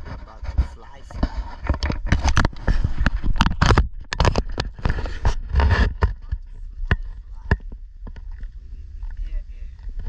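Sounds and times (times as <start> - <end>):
handling scrapes and knocks: 0.0 - 10.0
low wind rumble: 0.0 - 10.0.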